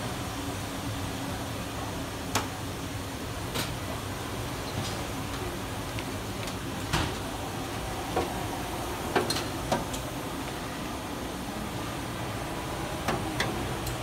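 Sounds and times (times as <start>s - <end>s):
workshop machinery whirring: 0.0s - 14.0s.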